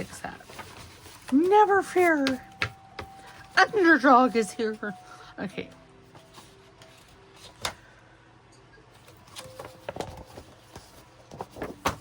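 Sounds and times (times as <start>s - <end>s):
paper pages rustling: 0.0s - 5.2s, 6.0s - 7.9s, 9.0s - 12.0s
faint background music: 0.0s - 12.0s.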